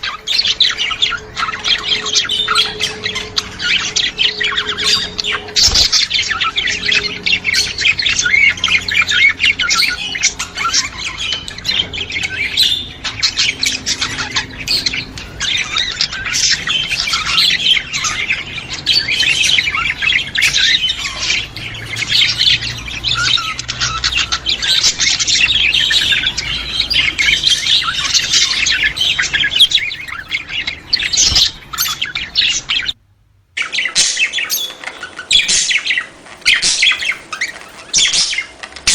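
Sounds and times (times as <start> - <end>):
budgerigars chattering: 0.0 - 33.0, 33.6 - 38.9.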